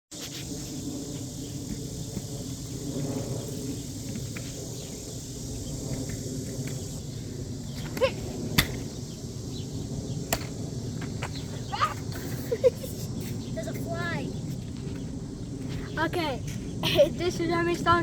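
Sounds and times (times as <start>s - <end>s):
insects droning: 0.1s - 18.0s
low rumble: 0.4s - 18.0s.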